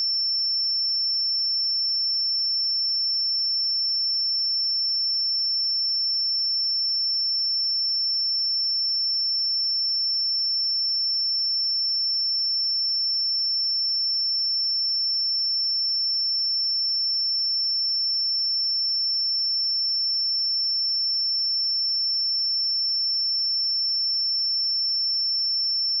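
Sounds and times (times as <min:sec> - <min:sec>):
high-pitched sine-wave test tone: 0:00.0 - 0:26.0.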